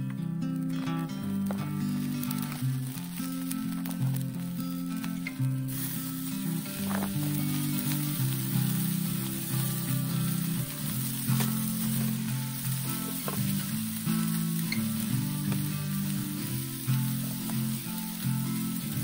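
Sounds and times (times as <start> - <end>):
background music: 0.0 - 19.0
food sizzling on a griddle: 0.6 - 19.0.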